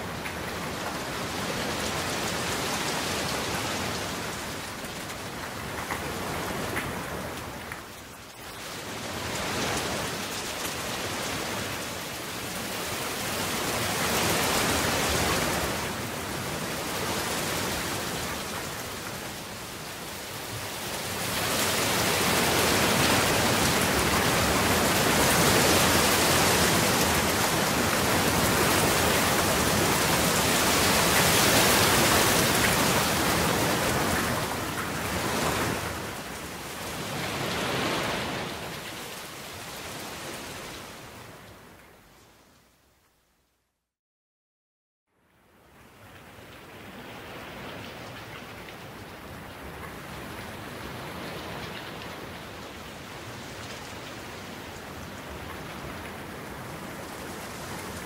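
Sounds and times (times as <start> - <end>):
rain falling: 0.0 - 43.1, 45.3 - 58.0.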